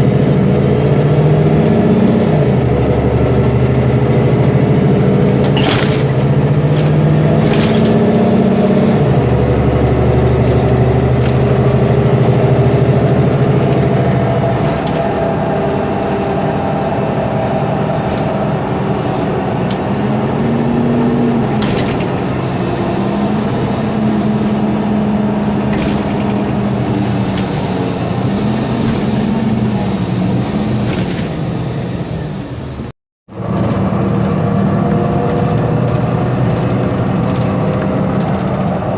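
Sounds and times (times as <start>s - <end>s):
bus diesel engine running: 0.0s - 38.9s
knocks and rattles: 0.9s - 31.5s, 33.5s - 38.9s.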